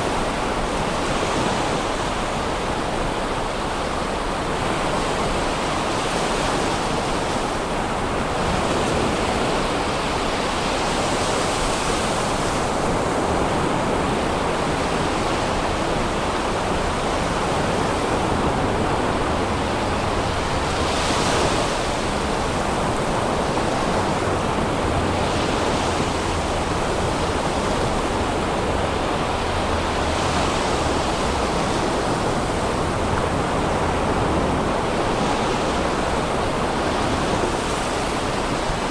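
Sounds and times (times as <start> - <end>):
surf breaking on beach: 0.0 - 38.9.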